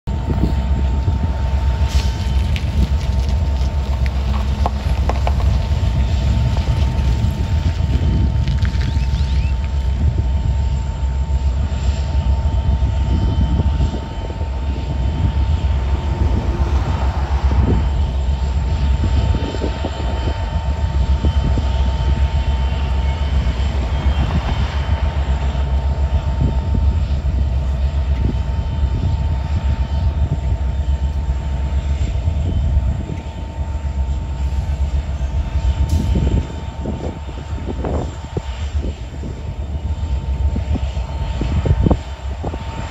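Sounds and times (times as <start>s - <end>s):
diesel locomotive engine rumble: 0.0s - 42.9s
steady engine whine: 0.0s - 42.9s.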